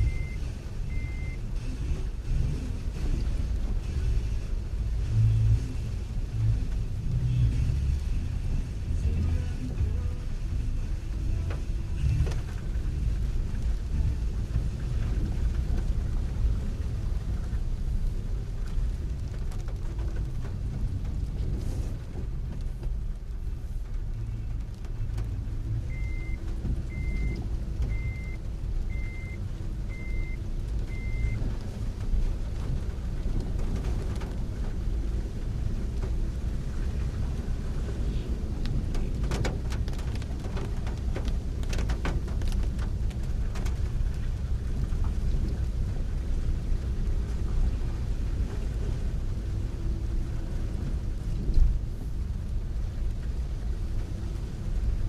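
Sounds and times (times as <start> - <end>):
heavy rain: 0.0 - 55.0
vehicles on flooded road: 0.0 - 55.0.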